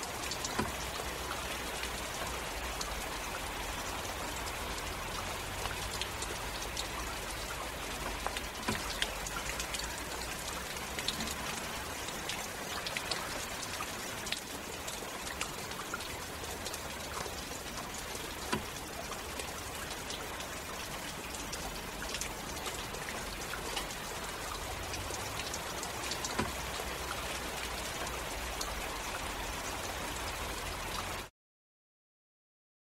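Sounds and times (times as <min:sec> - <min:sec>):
heavy rain: 0:00.0 - 0:31.3
raindrops ticking close by: 0:00.0 - 0:31.3.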